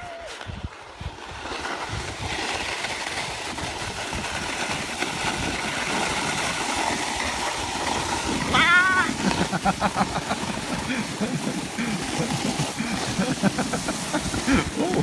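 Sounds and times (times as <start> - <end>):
sliding on snow: 0.0 - 15.0
wind buffeting microphone: 0.4 - 15.0.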